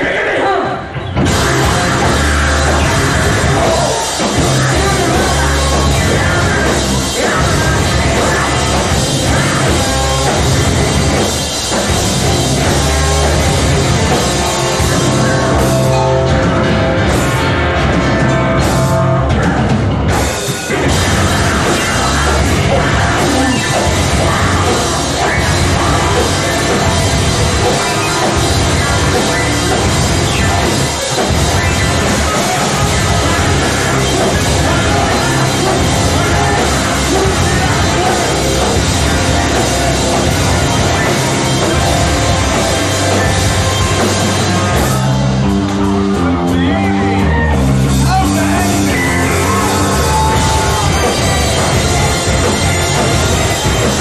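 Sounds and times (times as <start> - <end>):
rock band playing heavy music: 0.0 - 54.0
pounding drum kit: 0.8 - 54.0.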